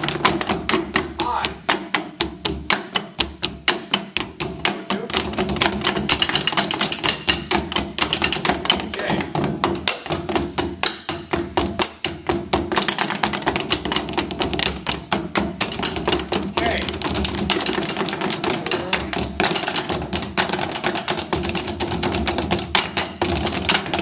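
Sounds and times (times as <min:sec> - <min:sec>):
drumsticks tapping on pads: 0:00.0 - 0:24.0.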